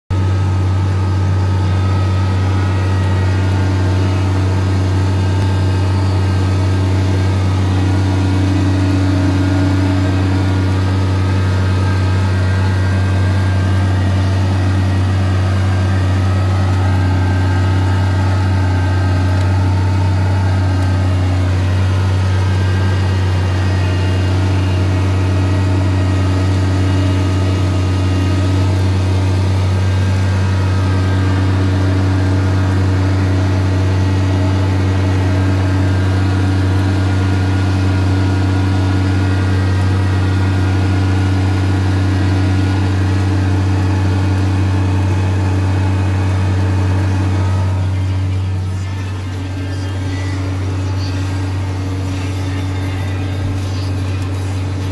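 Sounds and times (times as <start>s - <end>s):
tractor diesel engine droning: 0.0s - 54.9s.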